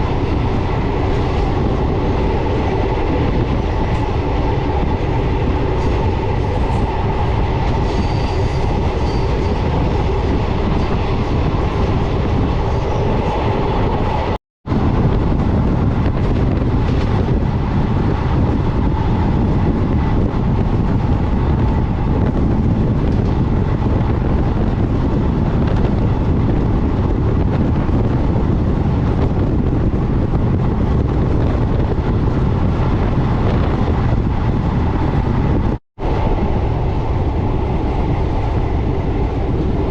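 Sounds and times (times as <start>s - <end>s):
train wheels clickety-clack on rails: 0.0s - 39.9s.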